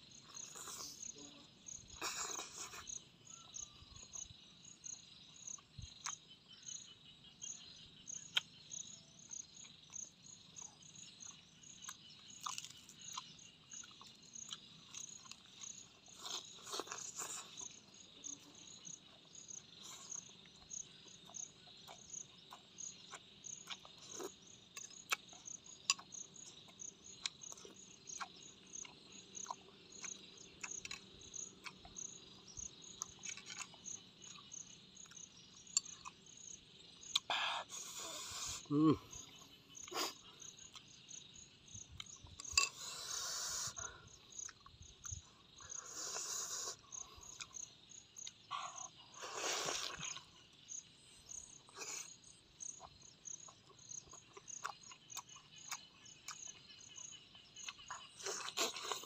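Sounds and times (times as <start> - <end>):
chewing and crunching food: 0.0 - 59.0
insect chirping: 0.0 - 59.0.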